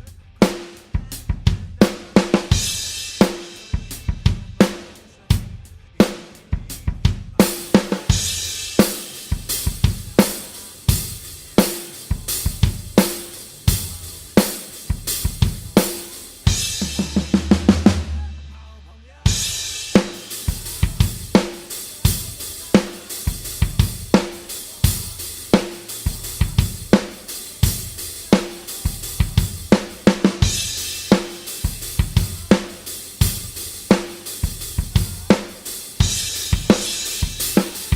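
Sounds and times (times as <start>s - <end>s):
drum kit rock beat: 0.0s - 37.9s.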